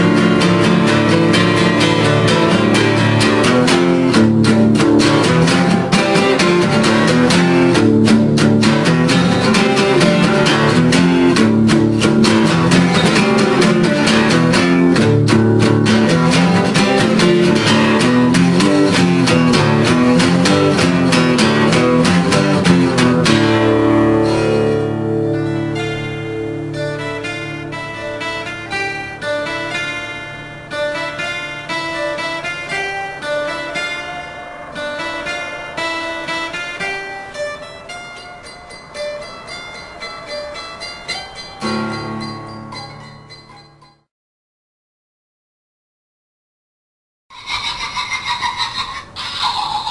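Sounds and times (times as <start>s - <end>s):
held guitar chord: 0.0s - 43.9s
picked guitar notes: 0.0s - 44.1s
plucked string melody: 0.0s - 44.1s.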